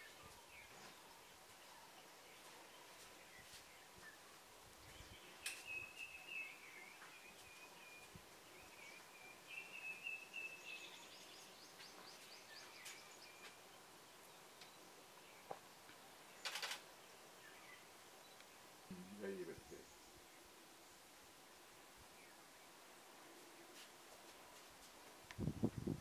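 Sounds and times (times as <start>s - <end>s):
thin whistled birdsong: 0.0s - 18.7s, 21.4s - 23.8s.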